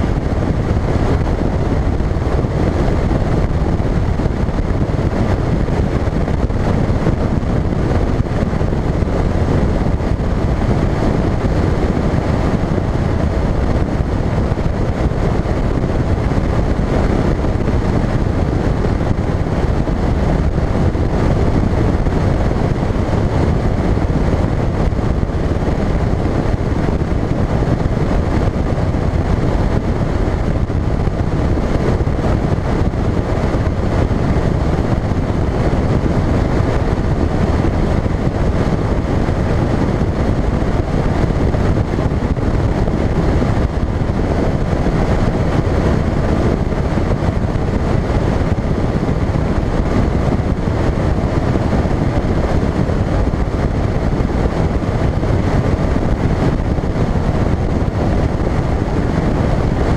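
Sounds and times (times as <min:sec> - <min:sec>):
hull running over water: 0:00.0 - 0:59.9
wind noise on microphone: 0:00.0 - 0:59.9.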